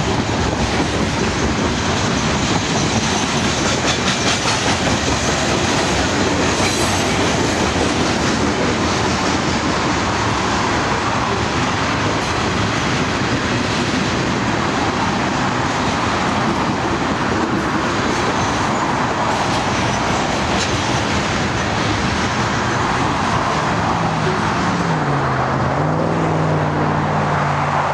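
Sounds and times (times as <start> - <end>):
train wheels rumbling on rail: 0.0 - 27.9
diesel engine drone: 4.7 - 27.9.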